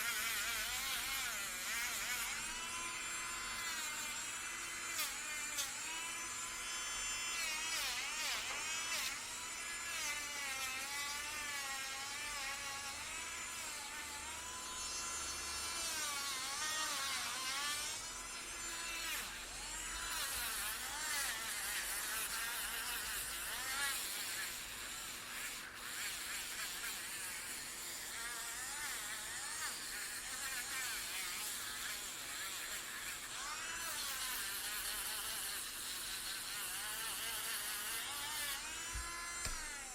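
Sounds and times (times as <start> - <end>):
electric nail drill whining: 0.0 - 39.9.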